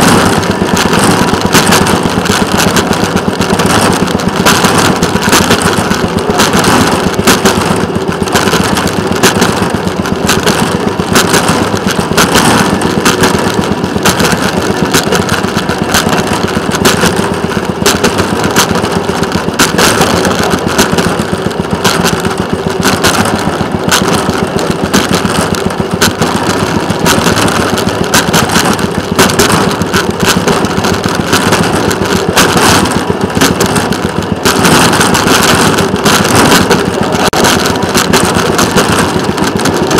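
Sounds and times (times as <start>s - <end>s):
small engine pulsing: 0.0s - 39.9s.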